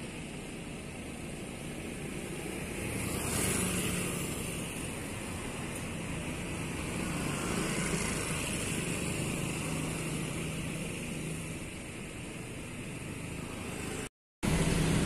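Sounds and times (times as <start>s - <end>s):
cars driving by: 0.0s - 15.0s.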